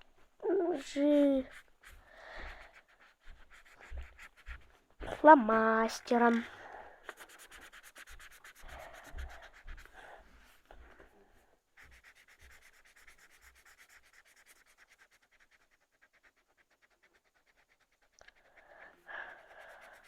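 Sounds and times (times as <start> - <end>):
pencil strokes rubbing on paper: 0.4 - 10.8, 11.8 - 20.0.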